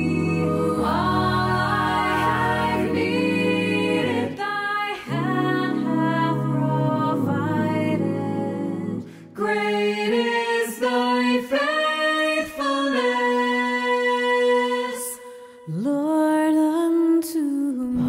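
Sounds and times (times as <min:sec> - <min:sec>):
vocal ensemble singing chord: 0:00.0 - 0:15.4.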